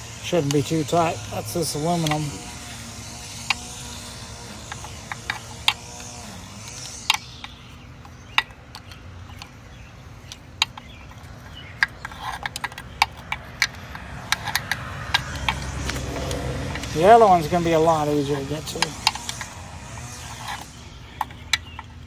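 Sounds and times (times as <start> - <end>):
wrench clicking on metal nut: 0.3 - 9.5, 10.2 - 21.9.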